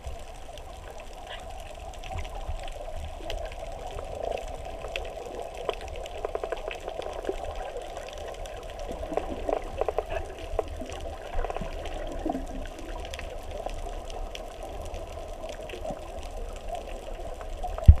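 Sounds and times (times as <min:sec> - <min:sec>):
muffled underwater rush: 0:00.0 - 0:18.0
small underwater clicks and crackles: 0:00.0 - 0:18.0.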